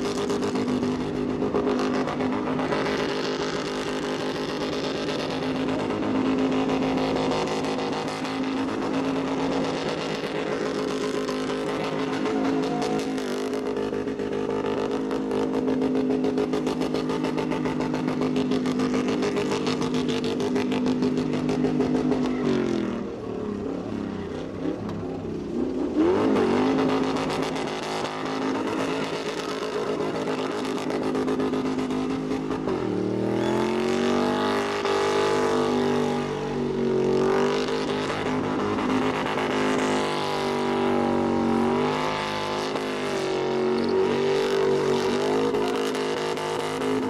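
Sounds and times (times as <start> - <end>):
car engine revving high: 0.0 - 23.1, 24.3 - 47.0.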